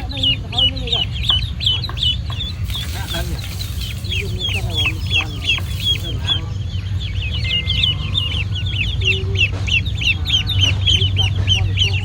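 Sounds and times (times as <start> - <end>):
ducklings peeping: 0.0 - 12.0
steady low hum: 0.0 - 12.0.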